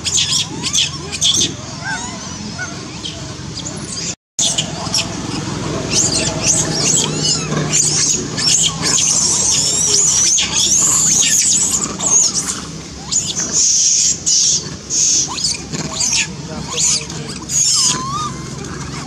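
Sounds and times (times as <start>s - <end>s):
infant monkeys squealing: 0.0s - 19.0s.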